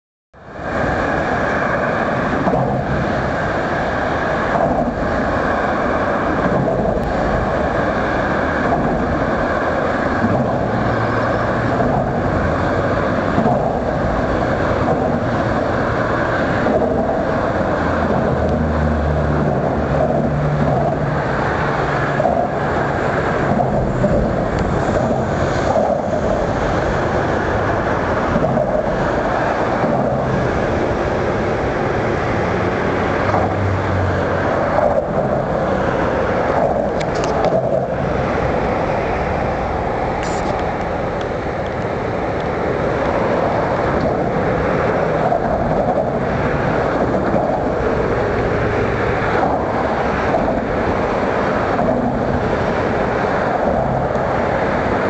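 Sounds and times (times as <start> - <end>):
steady engine noise: 0.4 - 55.0.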